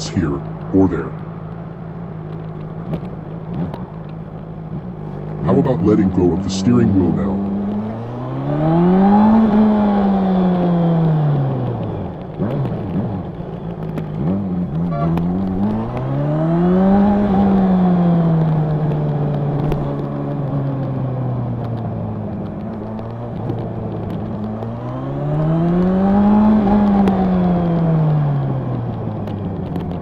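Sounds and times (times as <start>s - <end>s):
motorcycle engine revving: 2.0s - 30.0s.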